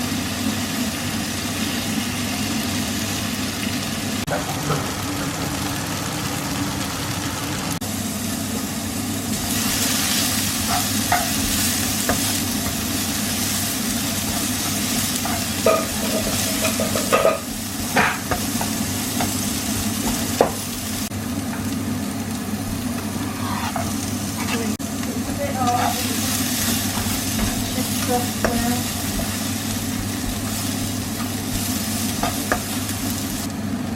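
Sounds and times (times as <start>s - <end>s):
food sizzling in pan: 0.0s - 33.8s.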